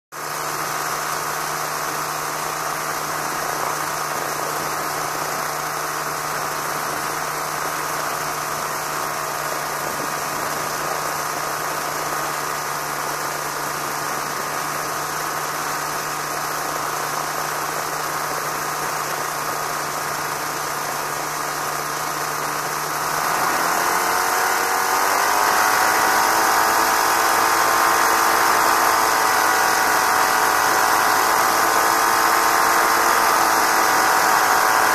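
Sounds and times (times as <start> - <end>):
ultralight aircraft engine and propeller: 0.2 - 34.9.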